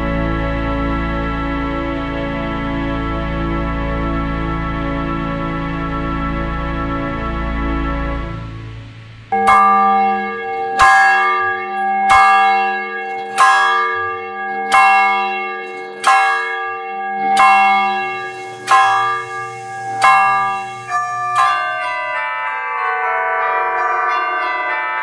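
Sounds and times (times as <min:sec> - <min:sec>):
church bell tolling: 0:00.0 - 0:25.0.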